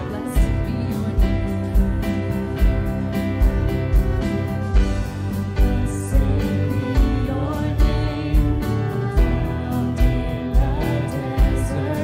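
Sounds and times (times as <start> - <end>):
worship band playing: 0.0 - 12.0.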